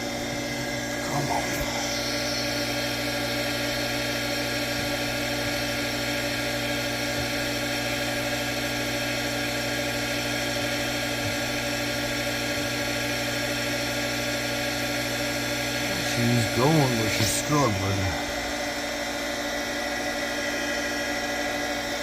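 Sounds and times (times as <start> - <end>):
well pump motor humming: 0.0 - 22.0.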